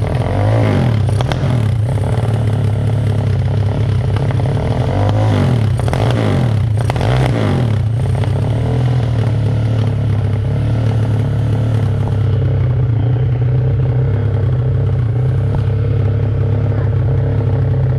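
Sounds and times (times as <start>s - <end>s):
dirt bike engine revving and idling: 0.0s - 17.9s.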